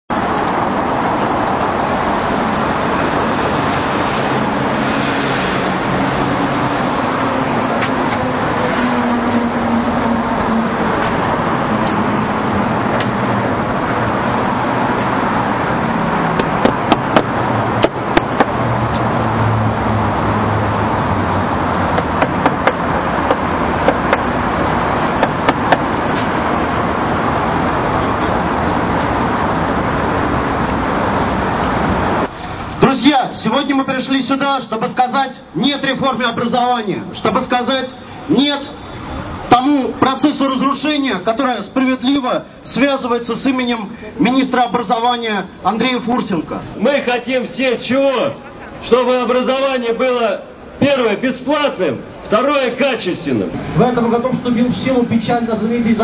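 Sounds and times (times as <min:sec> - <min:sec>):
city street traffic: 0:00.1 - 0:56.0.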